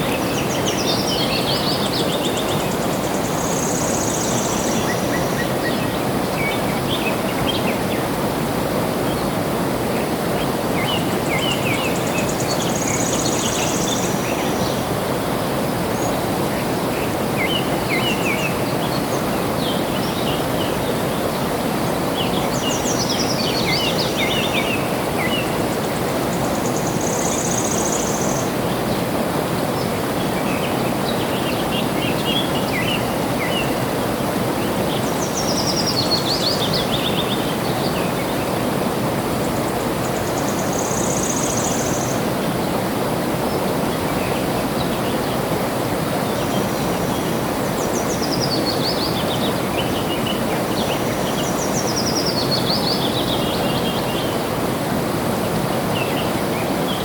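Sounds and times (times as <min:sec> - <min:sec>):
water rushing: 0:01.8 - 0:57.0.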